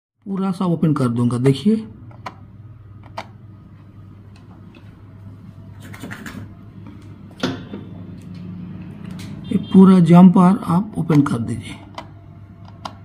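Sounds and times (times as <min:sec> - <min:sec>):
steady low hum: 0:00.3 - 0:13.0.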